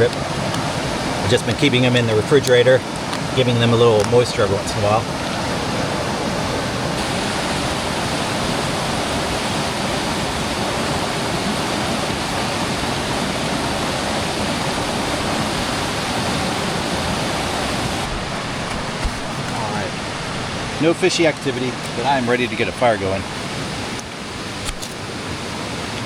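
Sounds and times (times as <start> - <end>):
creek water rushing over rocks: 0.0 - 26.0.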